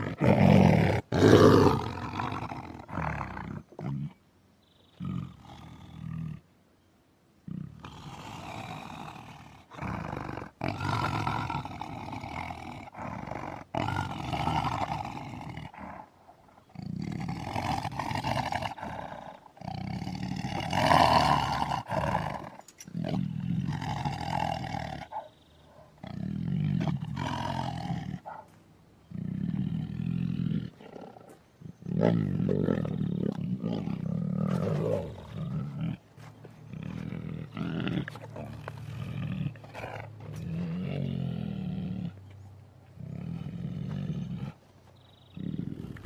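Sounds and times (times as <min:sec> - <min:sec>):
tiger roaring: 0:00.0 - 0:04.2, 0:07.4 - 0:42.2, 0:43.0 - 0:44.6.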